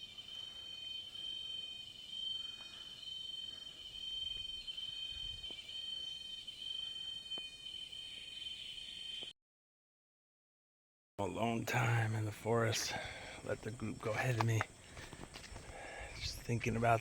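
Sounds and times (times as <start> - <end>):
insects buzzing: 0.0 - 9.3, 11.2 - 17.0.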